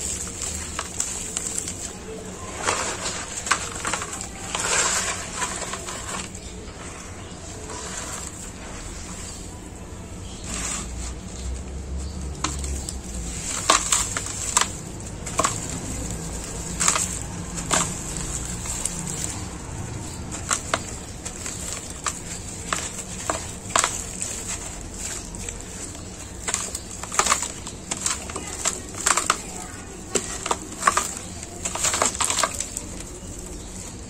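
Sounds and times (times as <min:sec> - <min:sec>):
dry soil crumbling and crackling: 0:00.0 - 0:34.0.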